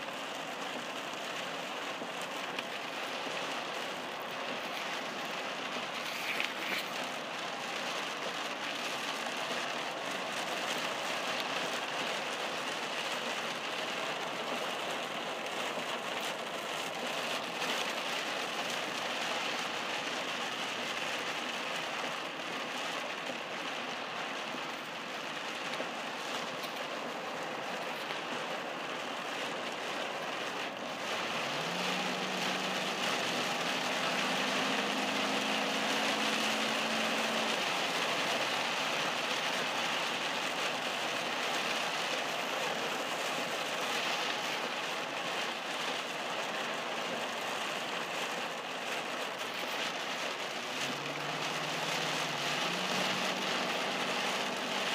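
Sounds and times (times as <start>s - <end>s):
heavy rain on car: 0.0s - 54.9s
tyre noise on wet road: 0.0s - 54.9s.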